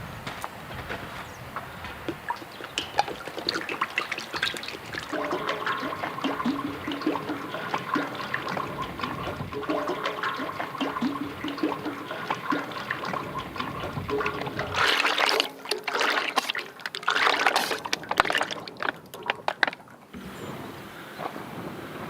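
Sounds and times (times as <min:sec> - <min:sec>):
crackling clicks: 0:00.2 - 0:20.1
liquid splashing and trickling: 0:02.0 - 0:20.2.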